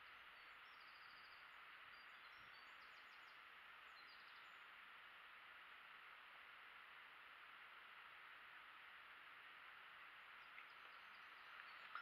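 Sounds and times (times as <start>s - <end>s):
faint birdsong chirps and trills: 0.0s - 12.0s
steady hiss: 0.0s - 12.0s.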